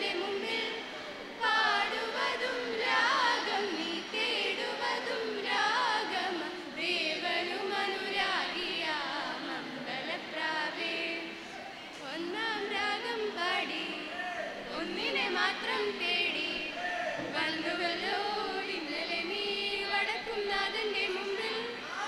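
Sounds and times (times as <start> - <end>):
group singing into a microphone: 0.0 - 22.0.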